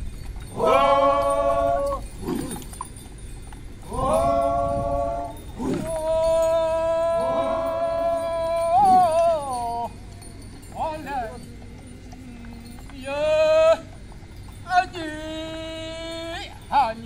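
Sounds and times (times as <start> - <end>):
men chanting long held calls: 0.5 - 2.8, 3.8 - 17.0.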